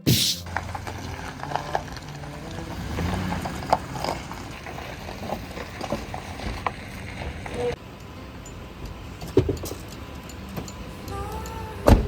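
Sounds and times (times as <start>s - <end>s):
vehicle engine running at low speed: 0.1s - 12.0s.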